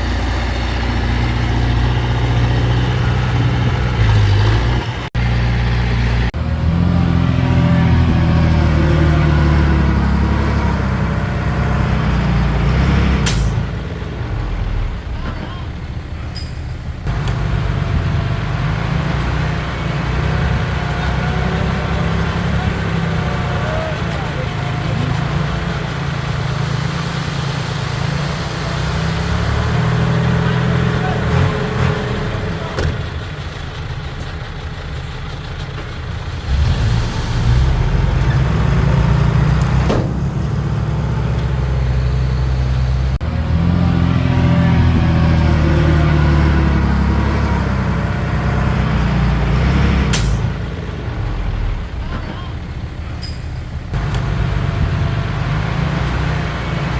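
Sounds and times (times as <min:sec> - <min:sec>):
diesel machinery engine under load: 0:00.0 - 0:56.9.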